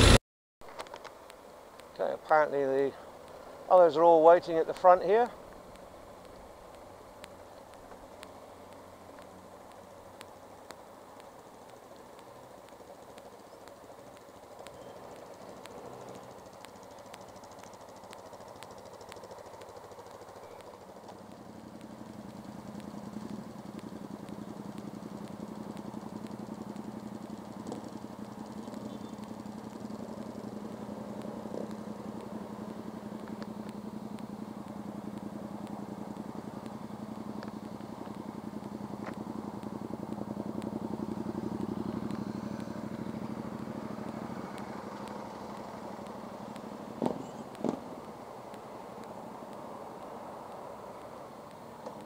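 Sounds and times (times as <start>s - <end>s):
motorcycle engine idling: 1.2s - 52.0s.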